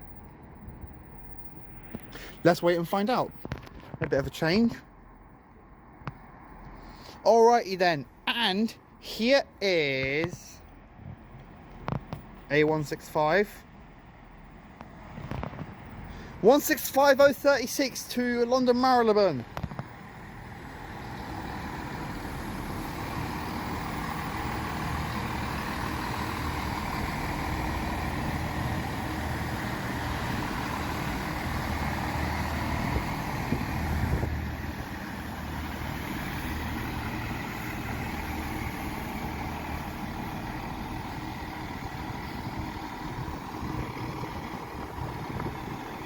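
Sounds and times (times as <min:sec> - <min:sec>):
train diesel engines running: 0:01.7 - 0:03.4, 0:06.5 - 0:15.2, 0:15.8 - 0:46.0.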